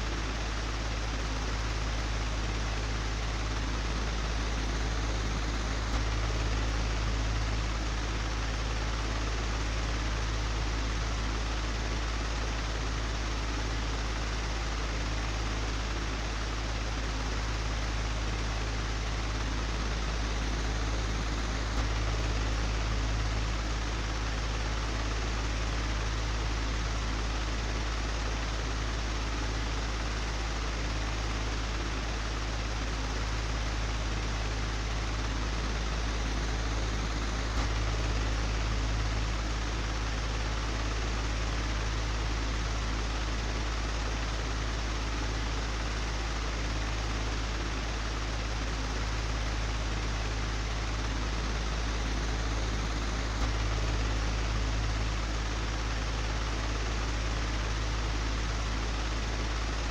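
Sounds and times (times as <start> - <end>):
electric fan whooshing and humming: 0.0 - 59.9.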